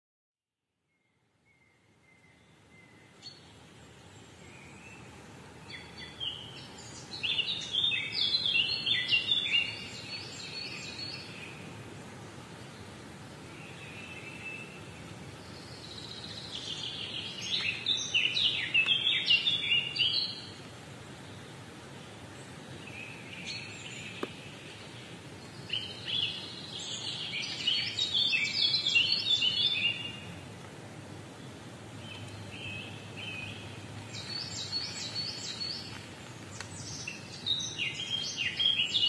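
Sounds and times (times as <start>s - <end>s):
songbird chirping: 0.8s - 39.0s
background hiss: 0.9s - 39.0s.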